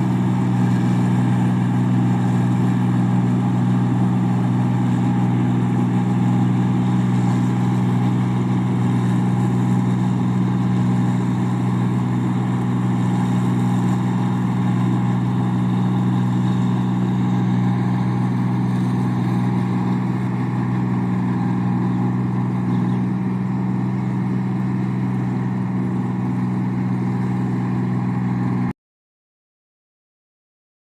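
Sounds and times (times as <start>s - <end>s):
farm machine engine humming: 0.0s - 28.7s.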